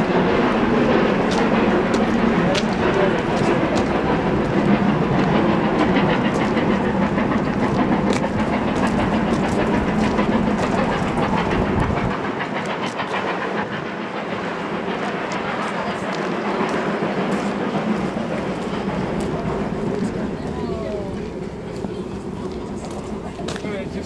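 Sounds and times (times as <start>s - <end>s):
deep train rumble: 0.0s - 24.0s
train wheels clicking over rail joints: 0.0s - 24.0s.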